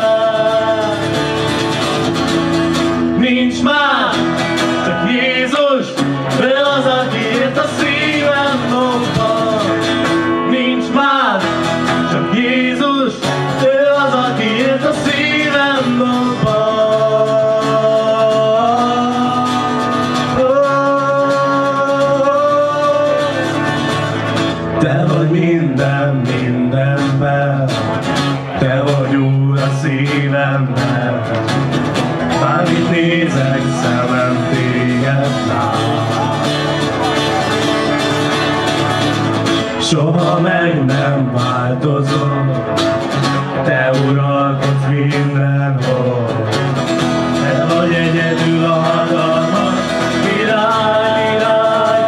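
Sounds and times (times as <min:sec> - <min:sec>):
lead melody with bending notes: 0:00.0 - 0:52.0
strummed guitars: 0:00.0 - 0:52.0.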